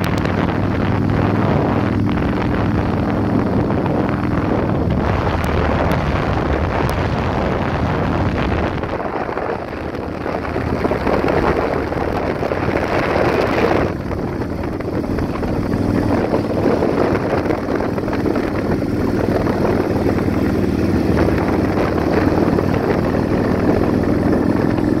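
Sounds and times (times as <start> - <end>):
vehicle engine: 0.0 - 25.0
wind noise: 0.0 - 25.0.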